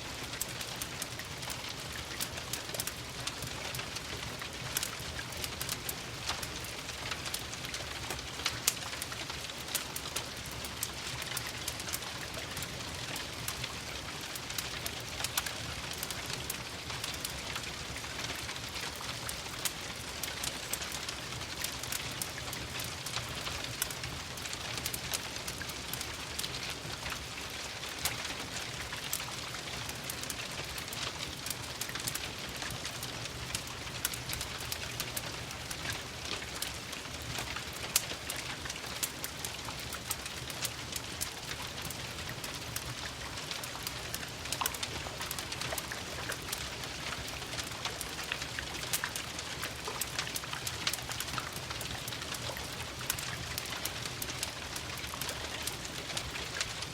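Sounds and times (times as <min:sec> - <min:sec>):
rain pattering: 0:00.0 - 0:56.9
fireplace crackling: 0:00.1 - 0:56.9.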